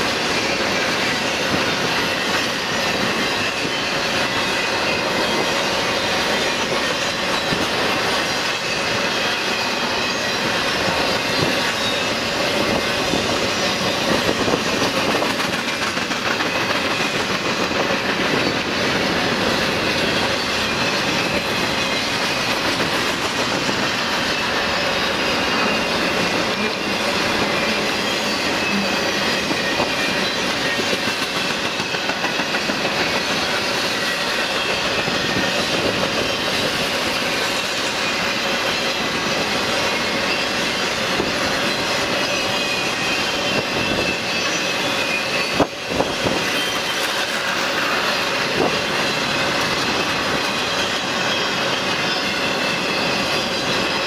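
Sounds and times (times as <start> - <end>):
freight train wheels on rail: 0.0 - 54.0.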